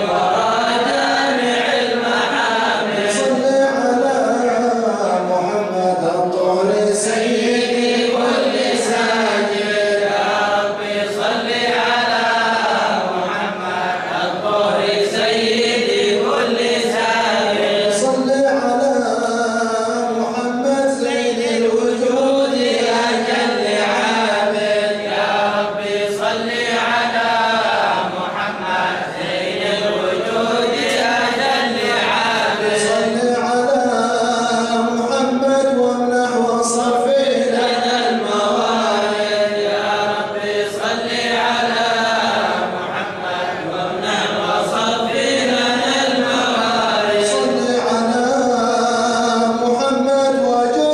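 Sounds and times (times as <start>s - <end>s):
men chanting together: 0.0s - 50.9s.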